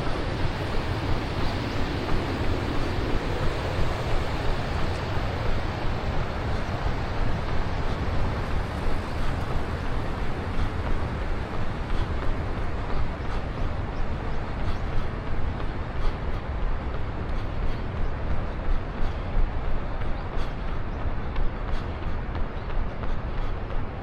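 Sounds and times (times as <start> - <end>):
road traffic: 0.0 - 23.9
wind rumbling on microphone: 0.0 - 24.0.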